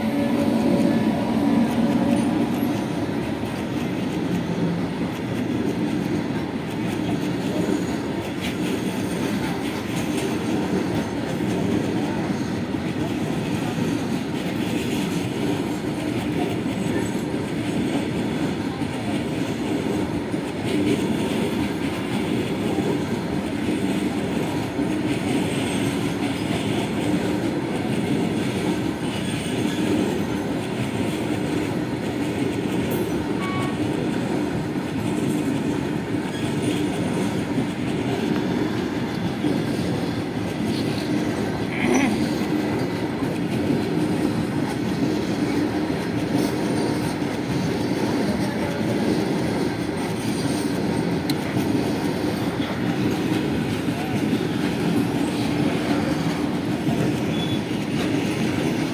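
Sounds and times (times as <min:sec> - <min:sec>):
freight train wheels clattering: 0:00.0 - 0:58.9.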